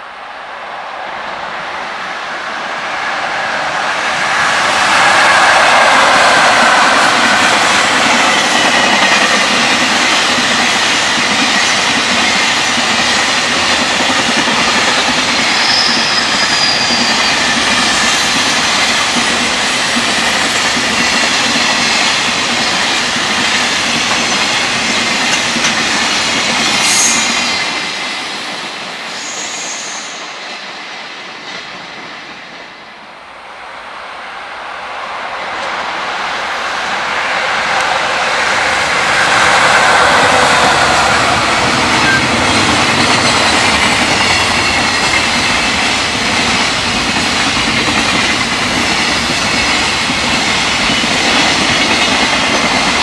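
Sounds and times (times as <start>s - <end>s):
freight train wheels clattering: 2.5s - 32.8s, 35.2s - 53.0s.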